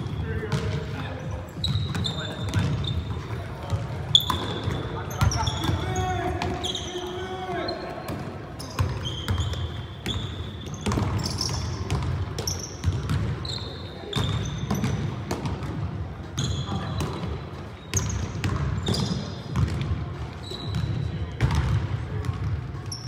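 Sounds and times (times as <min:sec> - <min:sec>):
sneaker squeaks: 0:00.0 - 0:15.4, 0:16.3 - 0:23.0.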